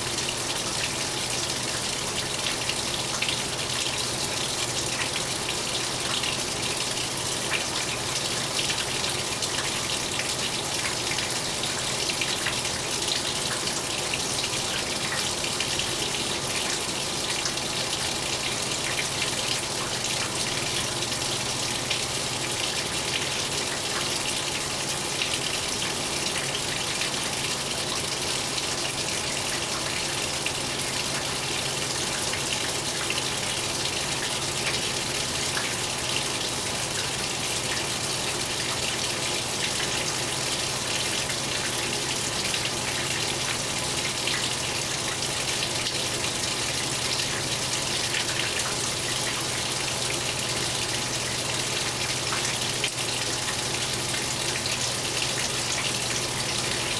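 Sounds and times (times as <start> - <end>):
water gushing into washing machine: 0.0 - 56.9.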